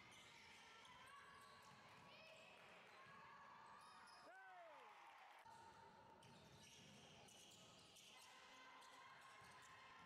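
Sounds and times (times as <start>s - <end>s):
sports hall reverberant background: 0.0s - 10.0s.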